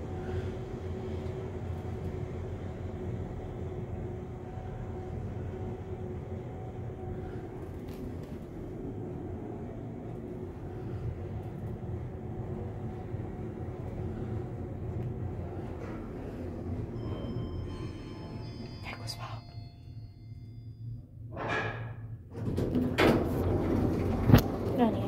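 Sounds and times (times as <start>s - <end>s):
faint hum: 0.0s - 22.4s
elevator low rumble: 0.0s - 25.0s.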